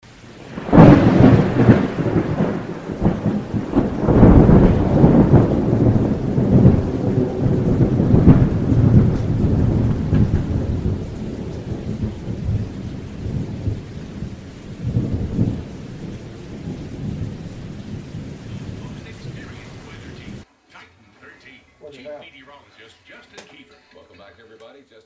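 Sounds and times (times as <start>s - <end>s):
rain: 0.0s - 20.5s
thunder rumbling: 0.0s - 20.5s.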